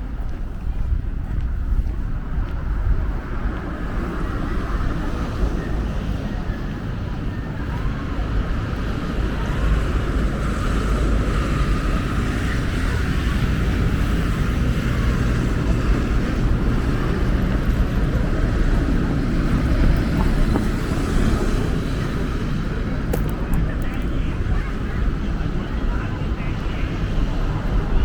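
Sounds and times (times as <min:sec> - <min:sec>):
wind buffeting microphone: 0:00.0 - 0:28.0
distant road traffic: 0:01.6 - 0:28.0.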